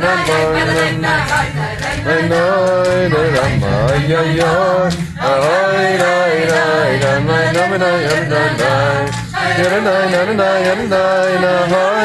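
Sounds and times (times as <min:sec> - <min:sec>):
group singing in unison: 0:00.0 - 0:12.0
hand clapping: 0:00.0 - 0:12.0.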